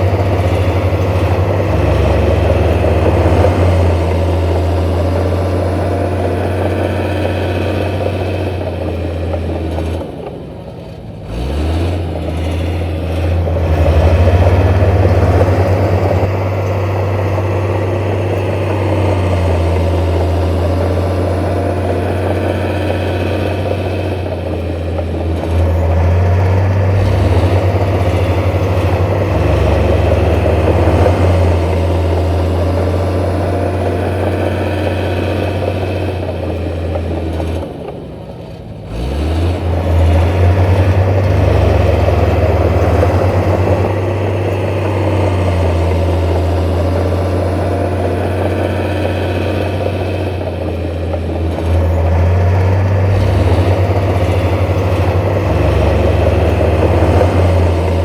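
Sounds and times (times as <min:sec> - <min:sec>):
diesel construction machine engine: 0:00.0 - 0:58.0.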